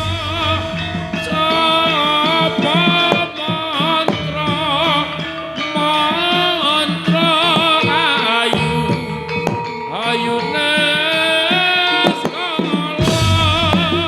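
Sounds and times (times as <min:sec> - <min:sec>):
gamelan music: 0:00.0 - 0:14.0
ornamented vocal line: 0:00.0 - 0:14.0
steady drum strokes: 0:00.0 - 0:14.0.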